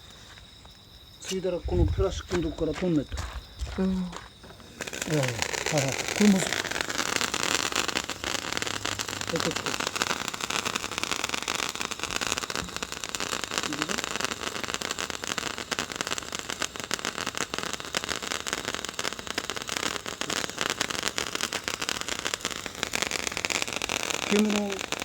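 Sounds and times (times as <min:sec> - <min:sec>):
handheld firework hissing and crackling: 0:00.0 - 0:25.0.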